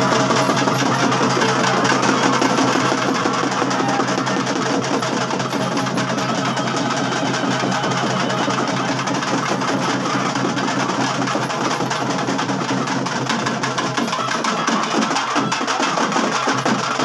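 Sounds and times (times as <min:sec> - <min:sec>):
fast continuous festival drumming: 0:00.0 - 0:17.0.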